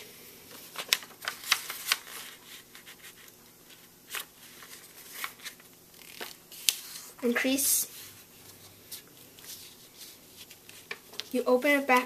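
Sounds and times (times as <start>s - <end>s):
paper rustling and crackling: 0.5s - 7.2s, 8.0s - 12.0s.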